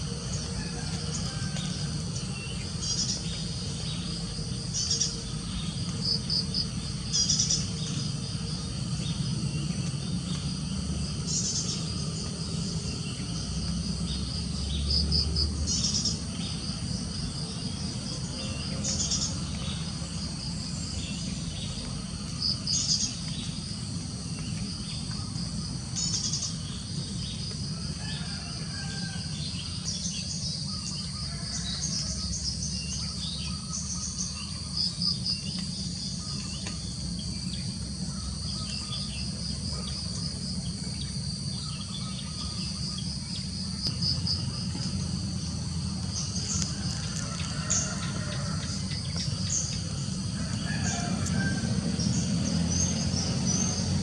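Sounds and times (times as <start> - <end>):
birds chirping: 0.0 - 54.0
insects pulsing trill: 0.0 - 54.0
low steady hum: 0.0 - 54.0.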